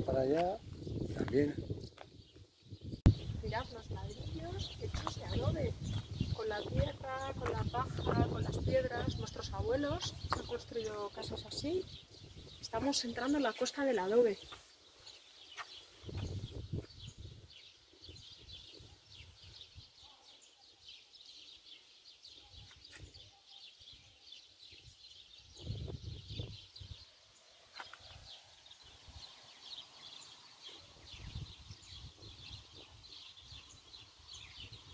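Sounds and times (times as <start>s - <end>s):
wind rumbling on microphone: 0.0s - 13.4s, 15.5s - 20.0s, 24.6s - 34.9s
small birds chirping: 0.0s - 34.9s.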